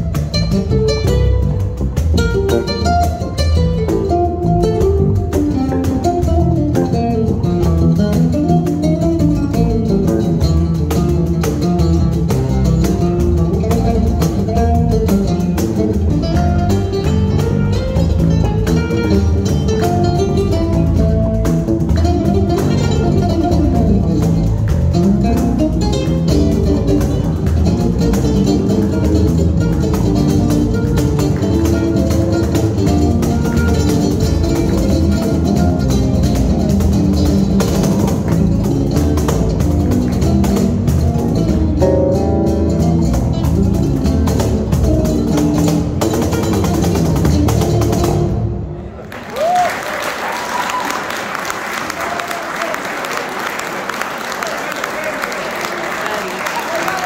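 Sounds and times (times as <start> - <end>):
acoustic guitar melody: 0.0 - 48.9
electric bass: 0.0 - 48.9
cajon beat: 0.0 - 49.6.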